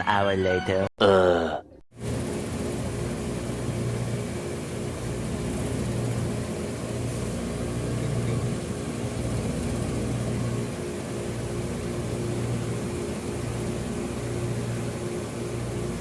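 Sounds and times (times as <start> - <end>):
machine motor hum: 2.0 - 16.0.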